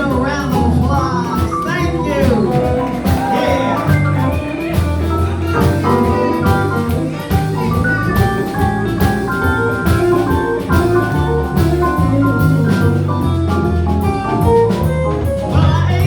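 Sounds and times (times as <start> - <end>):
blues band playing instrumental: 0.0 - 16.0
drum kit beat: 0.0 - 16.0.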